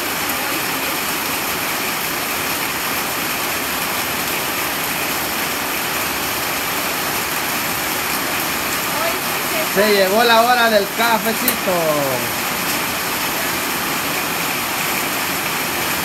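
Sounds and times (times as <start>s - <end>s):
heavy rain on metal roof: 0.0s - 16.0s
rain splashing on concrete: 0.0s - 16.0s.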